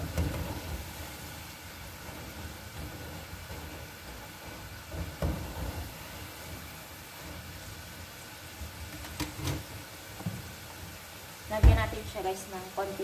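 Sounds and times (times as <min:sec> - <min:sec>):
stovetop hum and hiss: 0:00.0 - 0:13.0.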